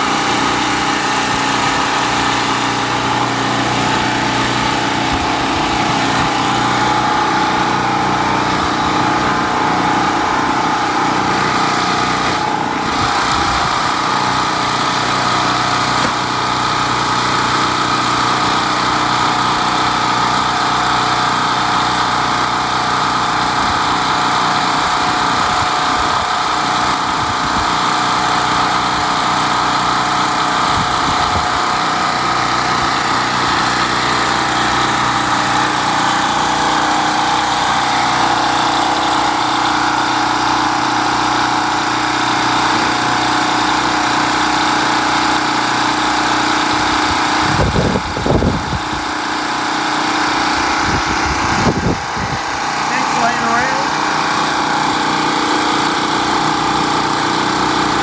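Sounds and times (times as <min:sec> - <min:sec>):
generator engine running: 0:00.0 - 0:58.0.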